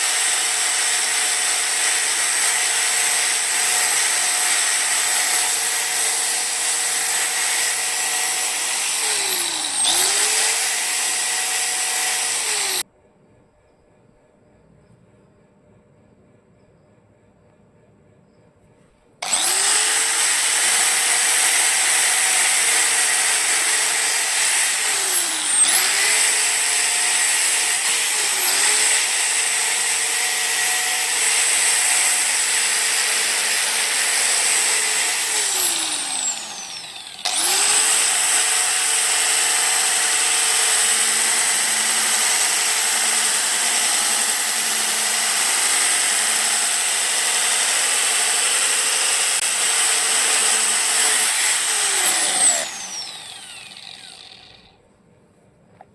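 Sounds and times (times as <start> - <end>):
angle grinder whining: 0.0 - 12.9, 19.2 - 54.8.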